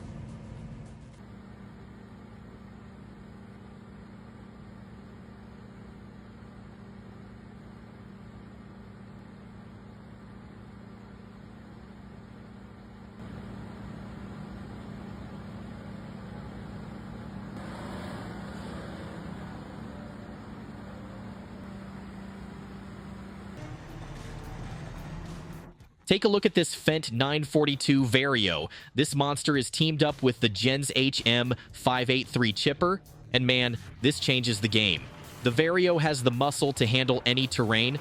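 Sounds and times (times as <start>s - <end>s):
heavy machinery diesel engine running: 0.0s - 25.8s, 29.9s - 38.0s.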